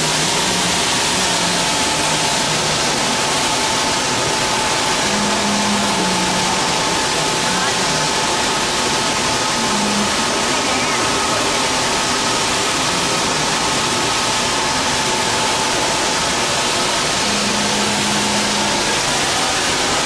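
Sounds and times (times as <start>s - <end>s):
air blowers rushing: 0.0s - 20.0s
faint steady whine: 0.0s - 20.0s.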